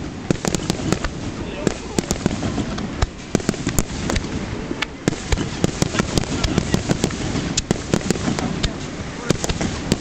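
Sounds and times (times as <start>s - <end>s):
fireworks pops and bangs: 0.0s - 10.0s
low rumble: 0.0s - 10.0s.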